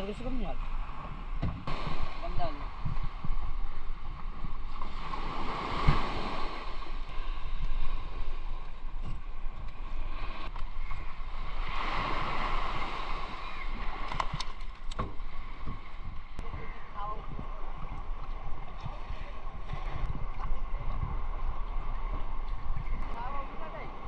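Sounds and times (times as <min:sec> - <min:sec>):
small waves washing on beach: 0:00.0 - 0:24.0
wind on microphone: 0:00.0 - 0:24.0.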